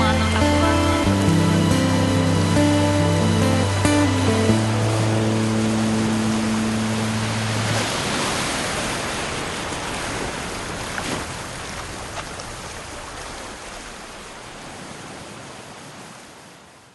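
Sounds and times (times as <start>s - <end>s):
sea surf washing: 0.0s - 16.7s.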